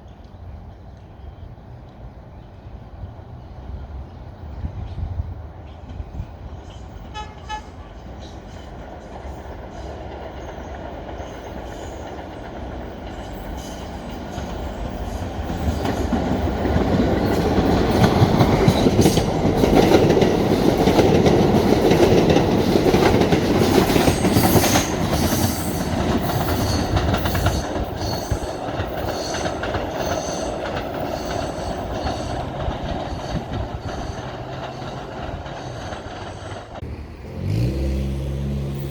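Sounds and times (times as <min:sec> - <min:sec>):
electric train rumble: 0:02.4 - 0:38.9.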